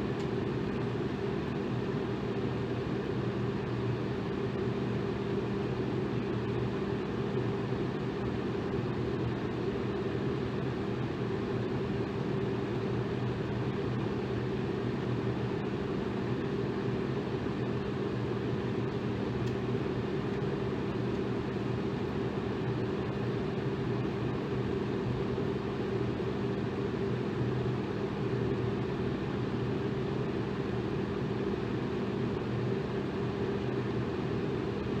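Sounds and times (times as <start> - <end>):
electric fan air rush: 0.0 - 35.0.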